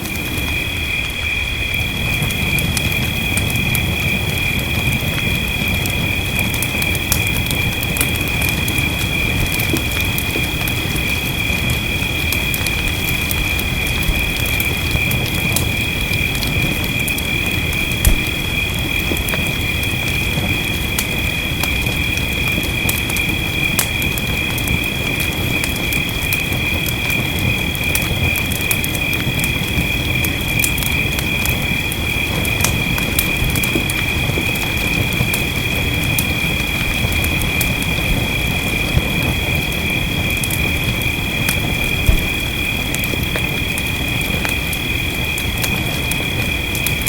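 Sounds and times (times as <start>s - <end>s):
steady rain: 0.0s - 47.0s
wood fire crackling: 0.0s - 47.0s.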